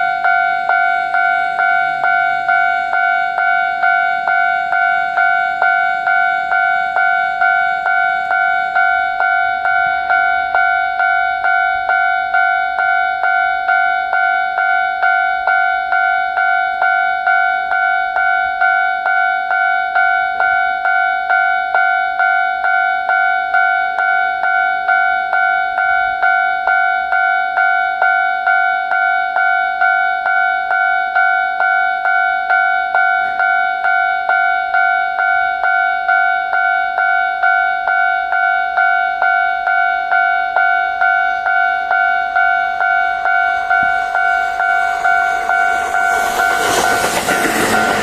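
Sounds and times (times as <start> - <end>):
level crossing alarm bell: 0.0 - 48.0.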